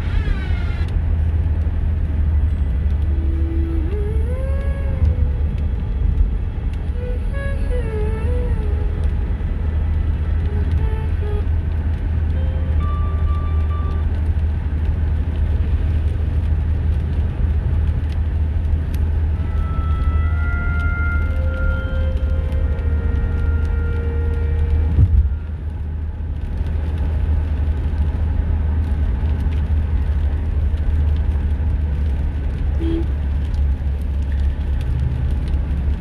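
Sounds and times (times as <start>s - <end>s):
car engine and tyres rumbling: 0.0s - 36.0s.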